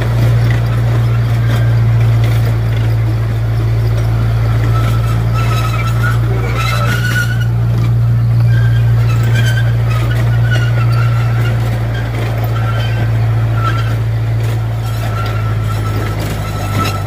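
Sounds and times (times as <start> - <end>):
high wheel squeal: 0.0 - 17.0
train low drone: 0.0 - 17.0.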